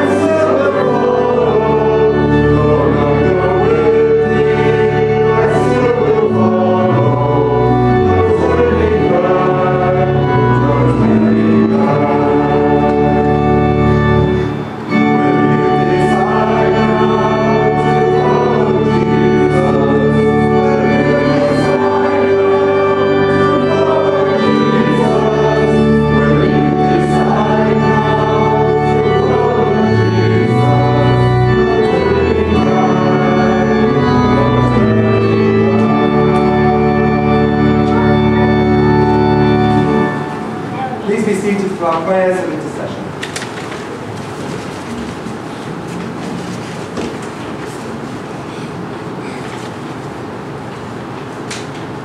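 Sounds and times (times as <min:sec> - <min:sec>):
church organ chords: 0:00.0 - 0:43.2
congregation singing: 0:00.0 - 0:52.0.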